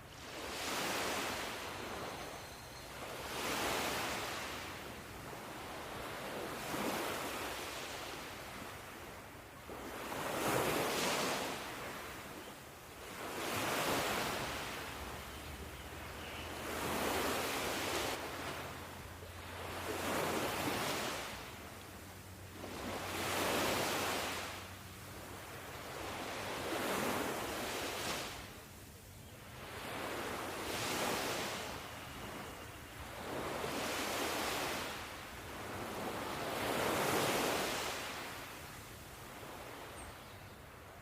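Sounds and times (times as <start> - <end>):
ocean waves breaking on shore: 0.0 - 41.0.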